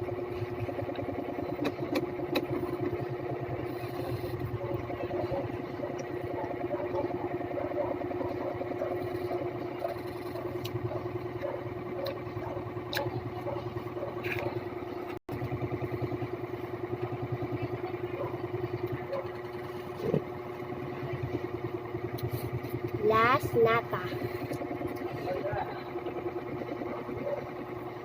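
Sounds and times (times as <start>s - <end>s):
small engine idling: 0.0s - 28.0s.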